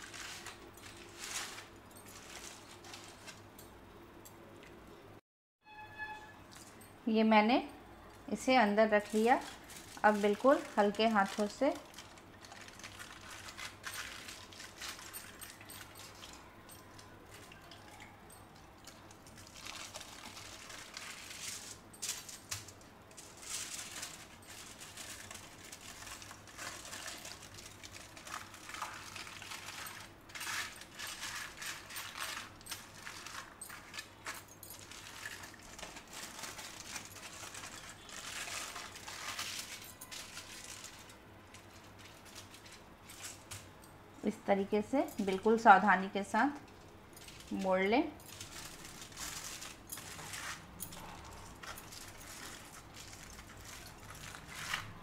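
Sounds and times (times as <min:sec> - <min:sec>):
aluminium foil crinkling: 0:00.0 - 0:03.6, 0:08.2 - 0:43.8, 0:46.4 - 0:55.0.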